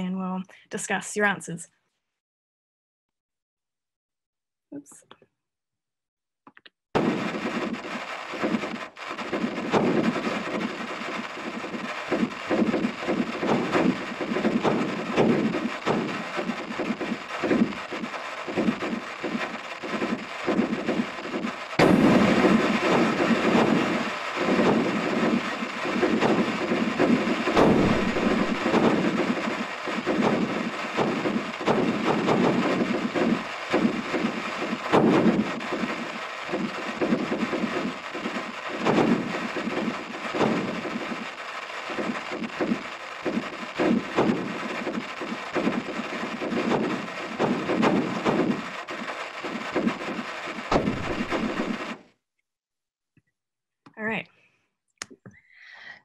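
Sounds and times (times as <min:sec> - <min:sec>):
crackle of pops and rumbling: 0:06.5 - 0:52.2.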